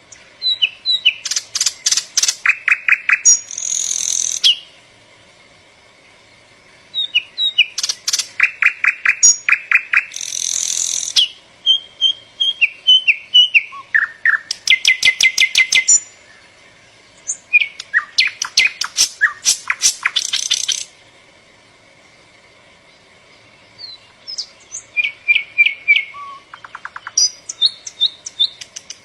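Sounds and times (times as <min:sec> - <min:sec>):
songbird singing: 0:00.0 - 0:29.0.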